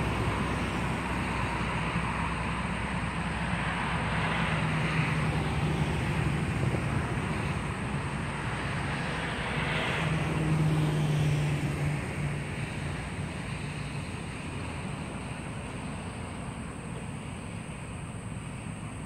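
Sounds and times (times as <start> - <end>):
cars passing at speed: 0.0 - 19.0.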